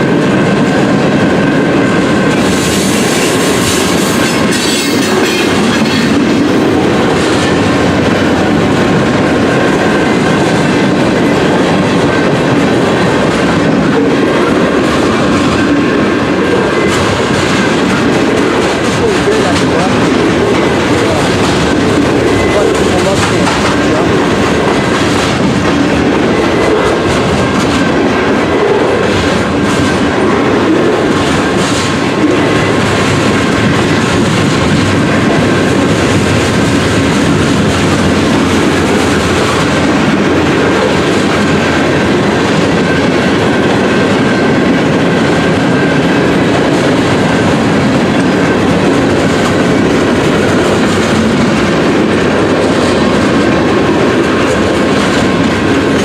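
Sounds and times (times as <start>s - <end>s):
freight train cars rolling past: 0.0s - 56.0s
steel wheels clacking over rail joints: 0.0s - 56.0s.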